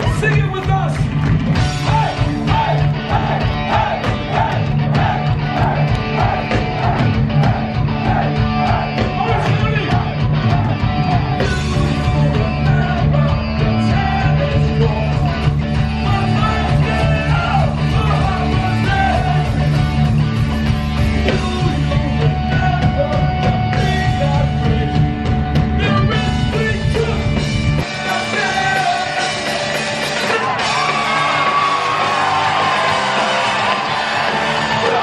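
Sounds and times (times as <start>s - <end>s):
punk rock band playing live: 0.0s - 35.0s
lead singer: 1.7s - 35.0s.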